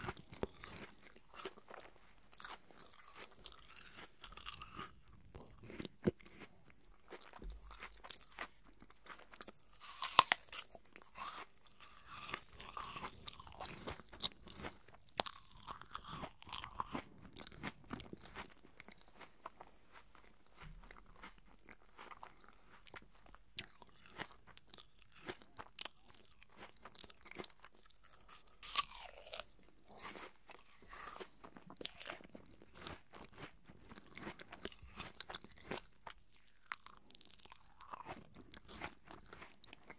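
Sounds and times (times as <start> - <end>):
person chewing crisp apple: 0.0 - 39.9.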